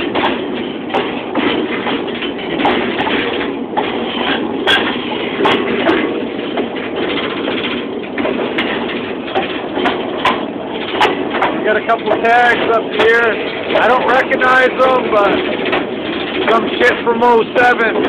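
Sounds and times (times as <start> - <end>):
freight train rattle and rumble: 0.0 - 18.0
sharp knocks of train: 0.0 - 18.0.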